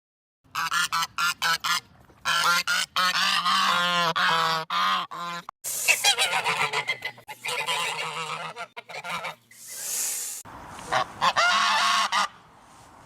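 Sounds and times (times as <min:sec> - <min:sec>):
geese honking: 0:00.5 - 0:09.5, 0:10.8 - 0:12.4.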